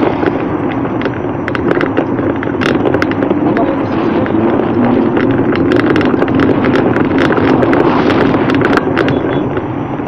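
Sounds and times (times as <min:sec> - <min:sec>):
sharp clicks and rattles: 0:00.0 - 0:10.0
wind rushing over microphone: 0:00.0 - 0:10.0.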